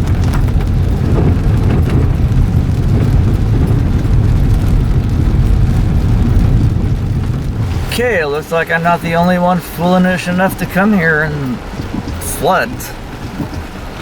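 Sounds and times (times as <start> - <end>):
car low rumble: 0.0 - 14.0
heavy rain beating on a car: 0.0 - 14.0.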